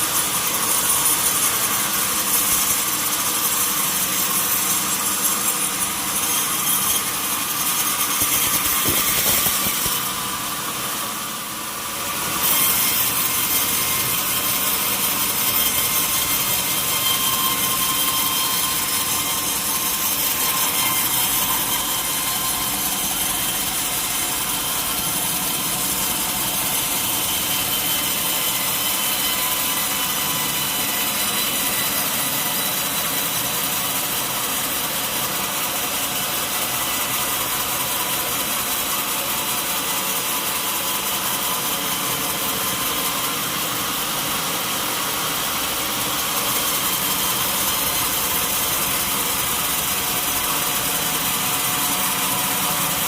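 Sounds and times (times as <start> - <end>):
sawmill saw cutting log: 0.0 - 53.0.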